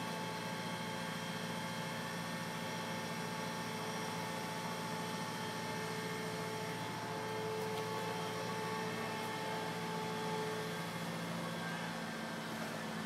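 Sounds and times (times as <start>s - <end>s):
crane engine droning: 0.0s - 13.0s.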